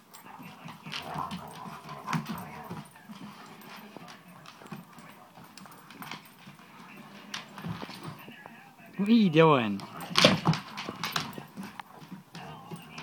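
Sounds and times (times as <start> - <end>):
dog claws clicking on wooden floor: 0.1 - 8.3, 9.8 - 13.0.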